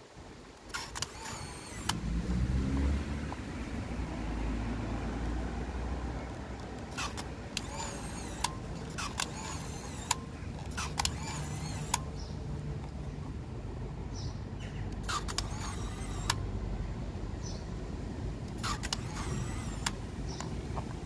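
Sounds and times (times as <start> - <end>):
vehicle engine rumbling: 0.3 - 21.0.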